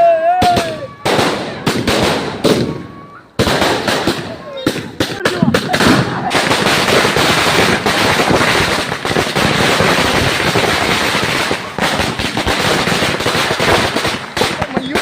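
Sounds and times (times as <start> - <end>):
firecrackers going off: 0.3 - 15.0.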